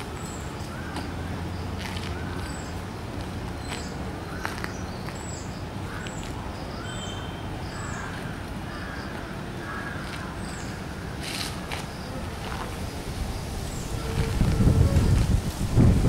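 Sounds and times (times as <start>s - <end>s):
birds chirping: 0.0s - 15.9s
low background noise: 0.0s - 16.0s
harsh low bird calls: 0.1s - 16.0s.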